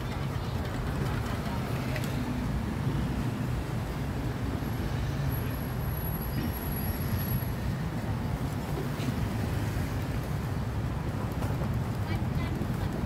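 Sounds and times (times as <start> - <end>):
outdoor market background noise: 0.0 - 13.0
street traffic rumble: 0.0 - 13.0.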